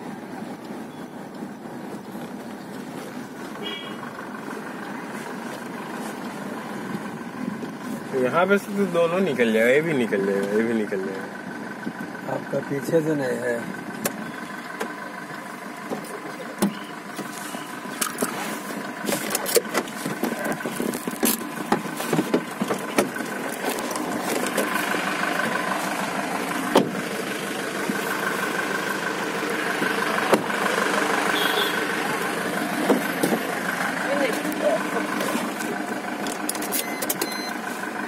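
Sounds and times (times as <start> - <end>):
car engine hum from cabin: 0.0 - 38.0.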